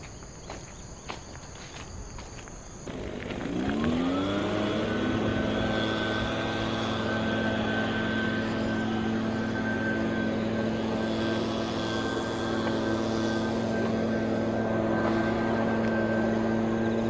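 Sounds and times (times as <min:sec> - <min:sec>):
crickets chirping: 0:00.0 - 0:17.0
engine drone: 0:02.7 - 0:17.0
thin high whine: 0:02.9 - 0:17.0.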